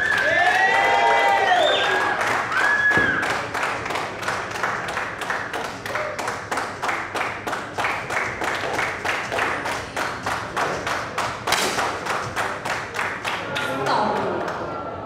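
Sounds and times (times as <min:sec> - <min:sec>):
audience clapping in unison: 0:00.0 - 0:14.8.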